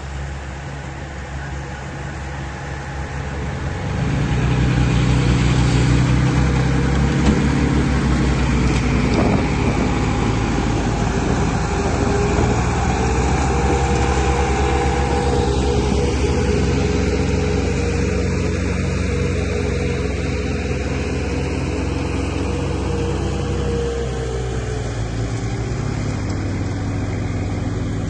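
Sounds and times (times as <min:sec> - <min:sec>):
heavy vehicle engine drone: 0:00.0 - 0:28.0.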